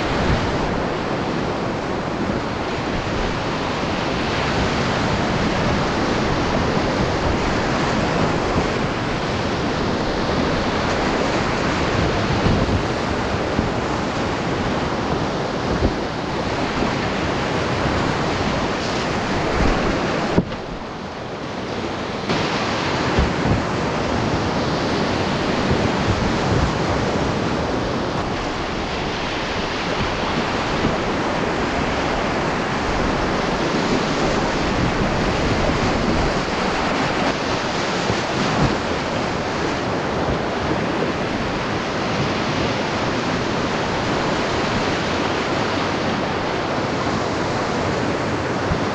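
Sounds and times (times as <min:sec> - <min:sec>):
whitewater rapids rushing: 0:00.0 - 0:48.9.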